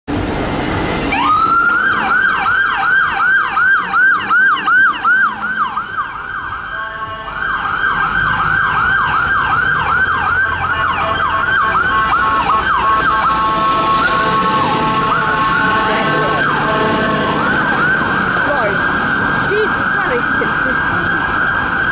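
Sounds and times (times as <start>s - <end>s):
fire engine siren wailing: 1.0s - 21.9s
steady siren tone: 1.1s - 21.9s.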